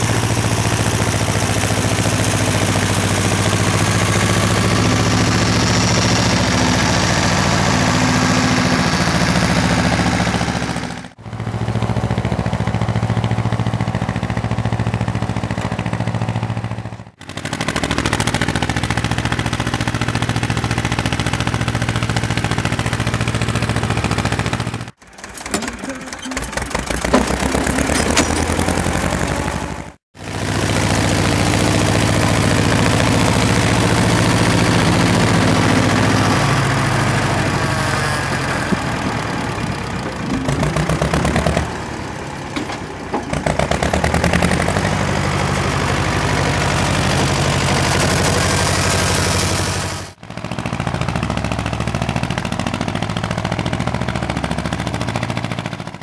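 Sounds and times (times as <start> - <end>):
tractor diesel engine chugging: 0.0 - 56.0.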